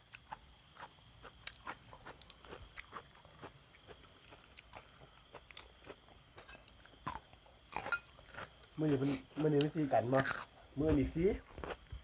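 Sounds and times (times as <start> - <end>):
person chewing: 0.0 - 8.8, 9.6 - 10.7, 11.4 - 12.0.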